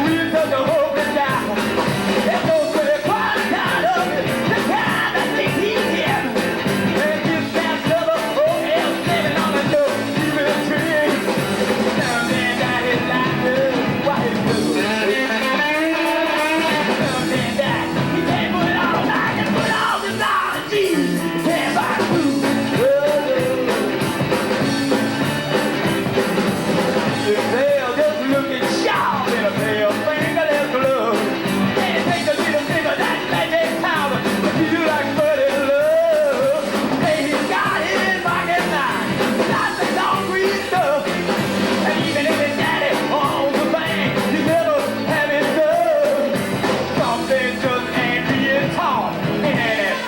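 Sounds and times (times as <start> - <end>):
person singing: 0.0 - 25.7, 27.0 - 50.0
bass guitar: 0.0 - 50.0
drums: 0.0 - 50.0
electric guitar: 0.0 - 50.0
keyboards: 0.0 - 50.0.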